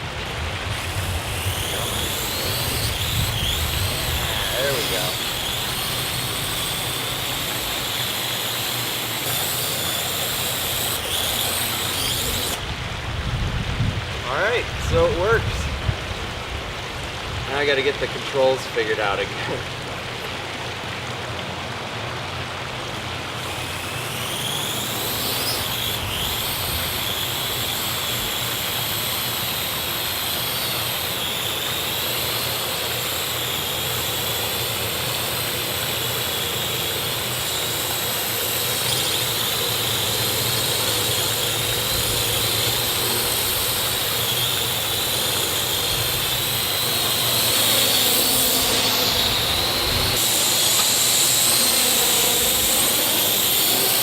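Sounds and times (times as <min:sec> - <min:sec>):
drone propellers whining: 0:00.0 - 0:13.2, 0:22.6 - 0:54.0
steady rushing noise: 0:00.0 - 0:20.1, 0:22.6 - 0:54.0.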